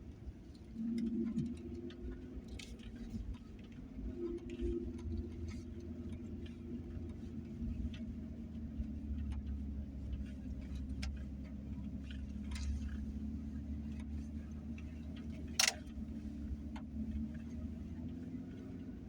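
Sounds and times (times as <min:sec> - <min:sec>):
pickup truck engine and road rumble: 0:00.0 - 0:19.0
light ticks: 0:00.5 - 0:18.6.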